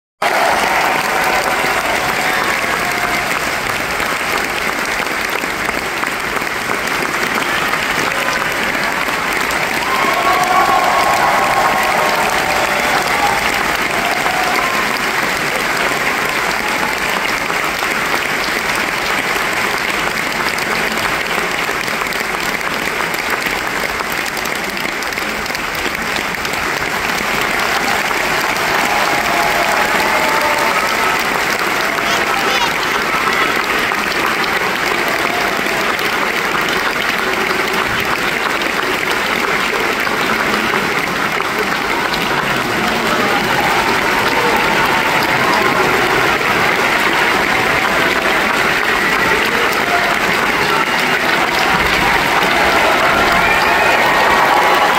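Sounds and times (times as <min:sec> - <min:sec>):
audience applauding: 0:00.2 - 0:54.9.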